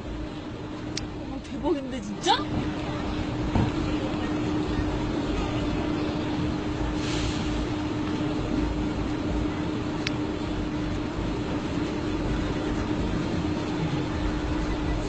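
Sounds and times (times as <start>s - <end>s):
traffic hum and rumble: 0.0s - 15.0s.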